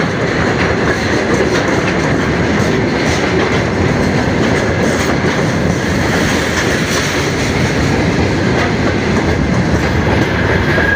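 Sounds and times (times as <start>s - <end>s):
freight train rolling on rails: 0.0s - 10.9s.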